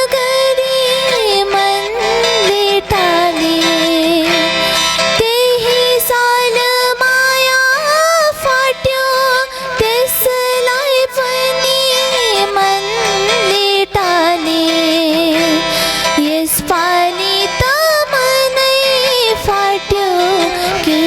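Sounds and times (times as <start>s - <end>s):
instrumental accompaniment: 0.0s - 21.0s
woman singing: 0.0s - 21.0s.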